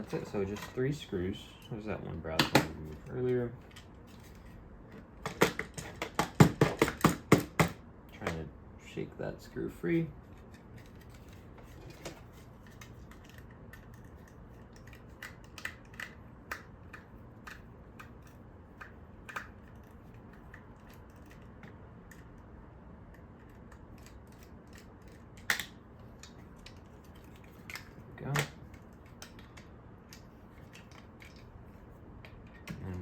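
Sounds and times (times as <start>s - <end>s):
tools clicking on hard plastic: 2.3s - 8.4s, 10.4s - 22.4s, 23.1s - 31.5s.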